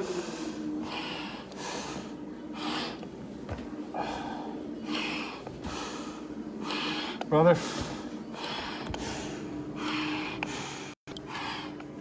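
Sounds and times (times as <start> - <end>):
heavy breathing through face mask: 0.0 - 12.0.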